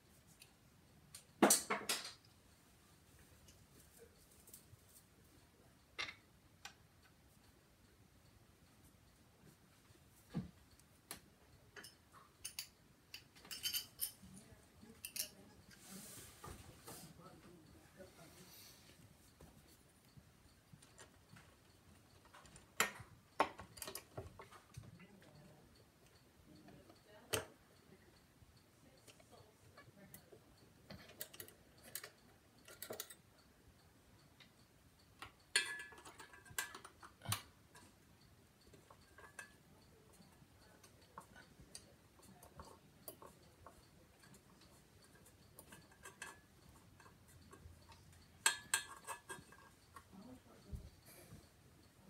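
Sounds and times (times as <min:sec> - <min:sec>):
light clicks and taps of hand work: 0:00.1 - 0:18.1, 0:18.8 - 0:52.0.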